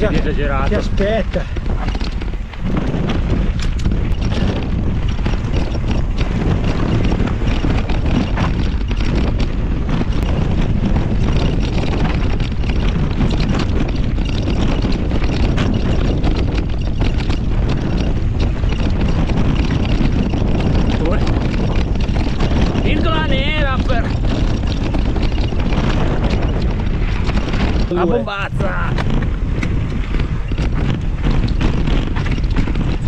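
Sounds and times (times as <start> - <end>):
bike tyres clicking and rattling: 0.0 - 33.0
wind rushing over microphone: 0.0 - 33.0.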